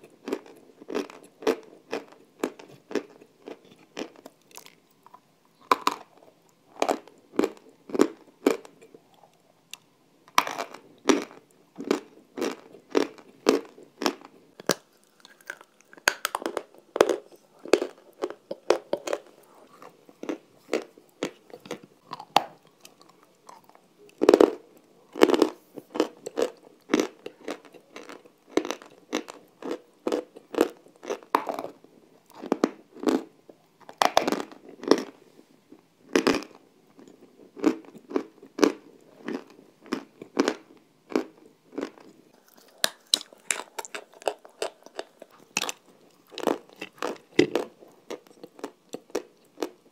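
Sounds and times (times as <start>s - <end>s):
crunchy food chewing: 0.0s - 35.2s, 36.0s - 49.9s.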